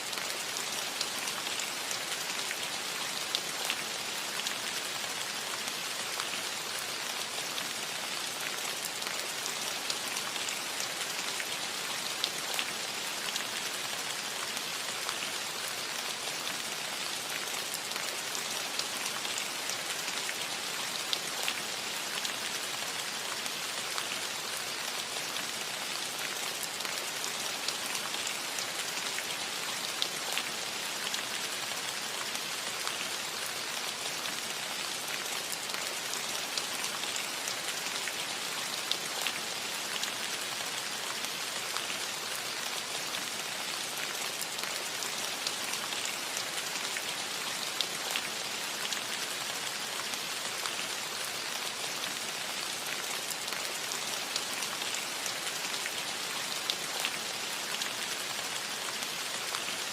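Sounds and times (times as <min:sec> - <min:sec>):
rain on a roof: 0:00.0 - 0:59.9.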